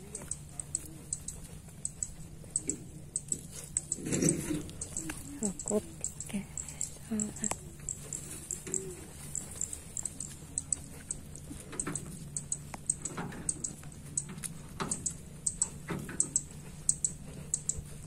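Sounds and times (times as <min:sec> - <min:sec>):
faint low hum: 0:00.0 - 0:18.0
footsteps on dirt path: 0:00.0 - 0:18.0.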